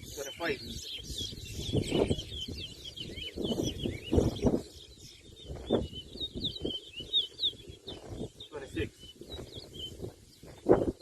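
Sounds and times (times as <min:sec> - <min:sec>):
finch twittering song: 0:00.0 - 0:11.0.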